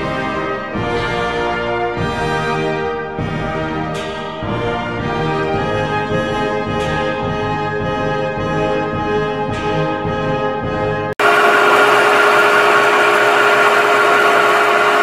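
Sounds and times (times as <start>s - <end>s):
sustained brass chords: 0.0s - 15.0s.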